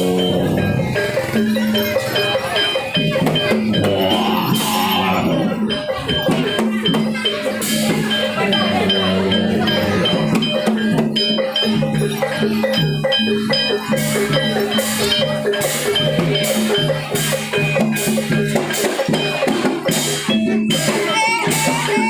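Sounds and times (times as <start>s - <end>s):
drum and rattle percussion: 0.0s - 22.0s
gamelan music: 0.0s - 22.0s.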